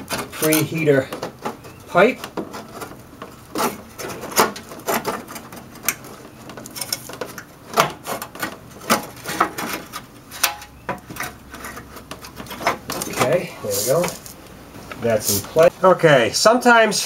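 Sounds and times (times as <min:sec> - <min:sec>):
metal exhaust parts clanking: 0:00.0 - 0:14.4.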